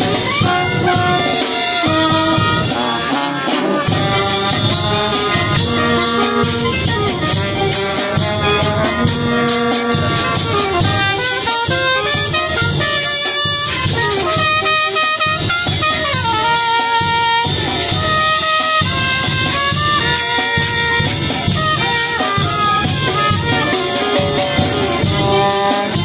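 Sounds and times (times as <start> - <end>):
drum beat: 0.0 - 26.0
wind band melody: 0.0 - 26.0.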